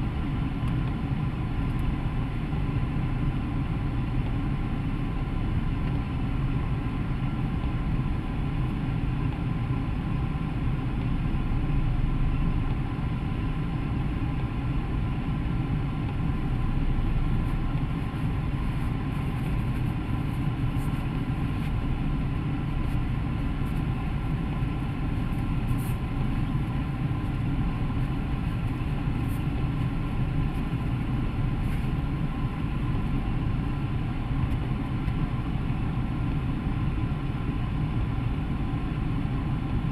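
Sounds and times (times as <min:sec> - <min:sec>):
car interior rumble: 0:00.0 - 0:39.9.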